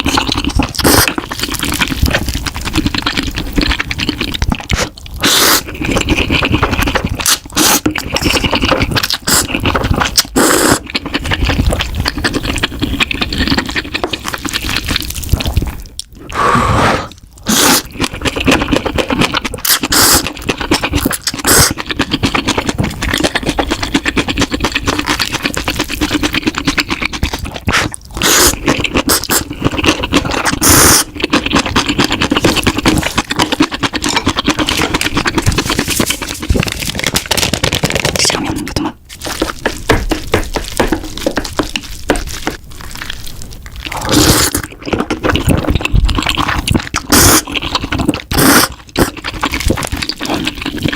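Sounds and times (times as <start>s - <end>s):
loud slurps: 0.0s - 15.6s, 16.2s - 40.2s, 43.8s - 50.9s
noodles being chewed: 0.0s - 50.9s.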